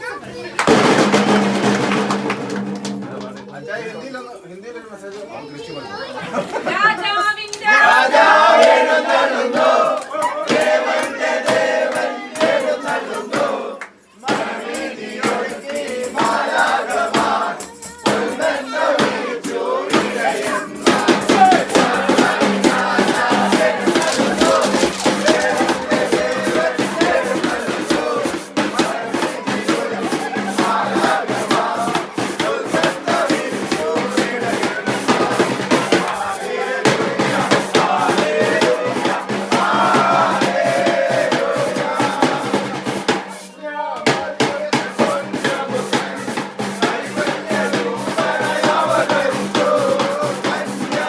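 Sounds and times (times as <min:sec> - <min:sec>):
steady drum beat: 0:00.3 - 0:04.2, 0:06.7 - 0:13.6, 0:14.2 - 0:51.0
group singing a christmas carol: 0:06.3 - 0:51.0
shakers: 0:07.1 - 0:43.6, 0:44.6 - 0:51.0.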